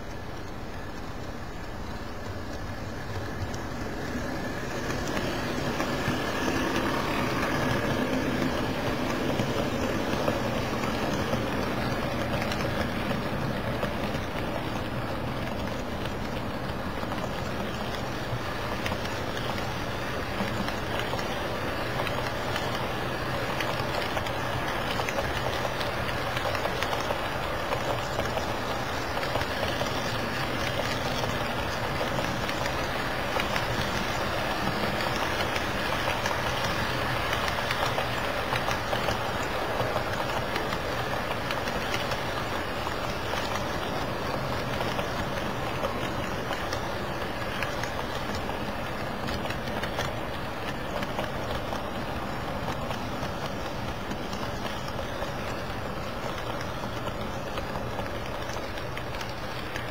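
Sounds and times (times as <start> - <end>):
model train wheels rattling on rail: 0.0 - 59.9.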